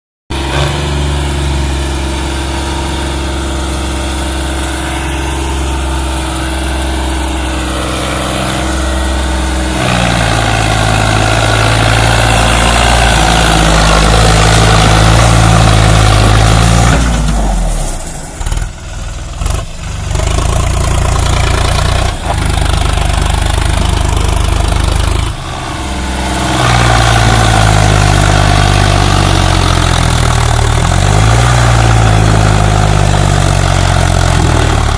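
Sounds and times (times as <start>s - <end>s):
tractor diesel engine revving: 0.3s - 34.9s.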